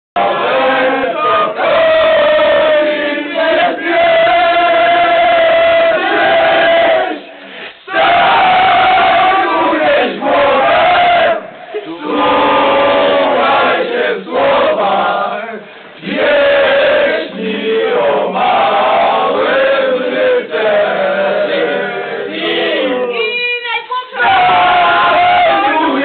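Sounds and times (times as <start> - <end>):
crowd singing a chant: 0.2 - 23.3, 24.1 - 26.0
single voice singing: 0.2 - 26.0.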